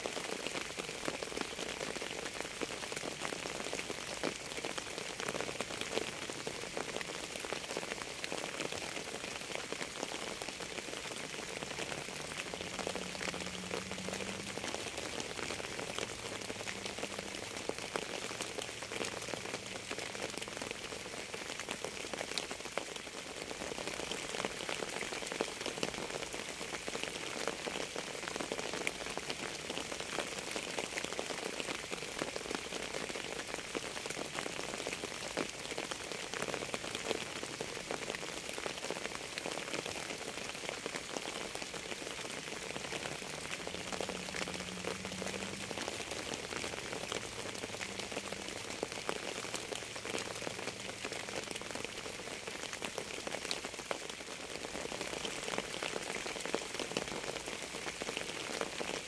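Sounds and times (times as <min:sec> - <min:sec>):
rain drops ticking: 0:00.0 - 0:59.0.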